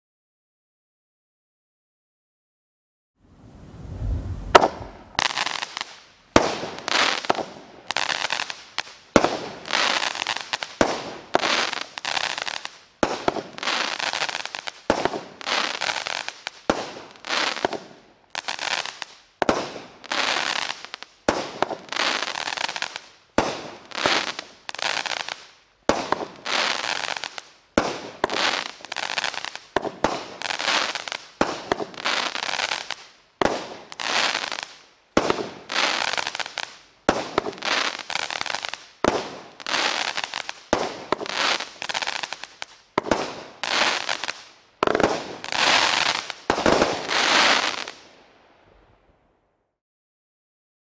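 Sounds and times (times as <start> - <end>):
firework shots with crackling bursts: 3.4 - 49.1.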